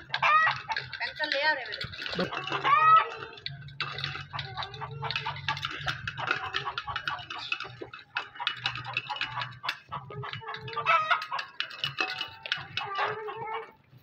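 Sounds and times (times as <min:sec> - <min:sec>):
beaks ticking on metal: 0:00.0 - 0:14.0.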